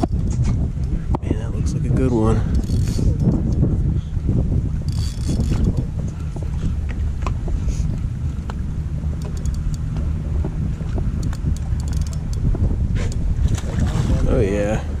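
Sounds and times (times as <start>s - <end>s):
boat engine idling: 0.0s - 15.0s
wind on microphone: 0.0s - 15.0s.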